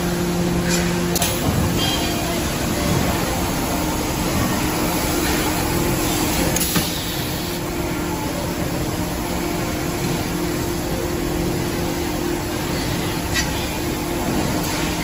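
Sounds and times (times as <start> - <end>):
hiss of shop noise: 0.0 - 15.0
machinery humming: 0.0 - 15.0.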